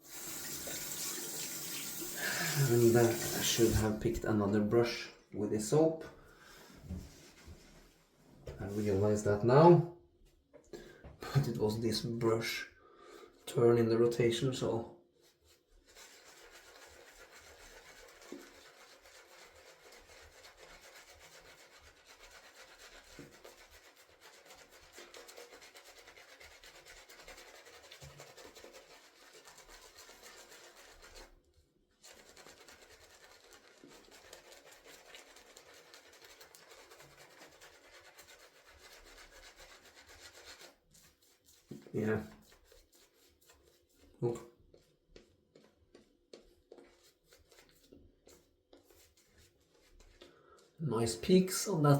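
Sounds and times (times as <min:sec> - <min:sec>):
shaving brush swishing lather: 0:00.0 - 0:05.1, 0:14.2 - 0:51.9.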